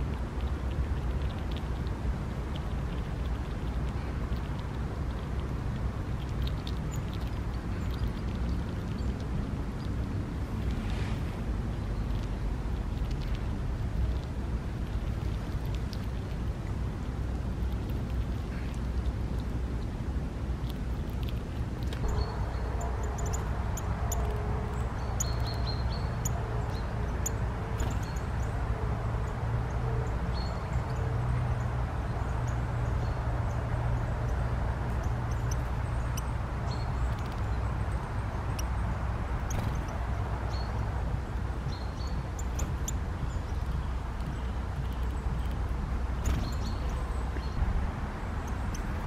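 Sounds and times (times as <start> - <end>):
low steady rumble: 0.0 - 49.0.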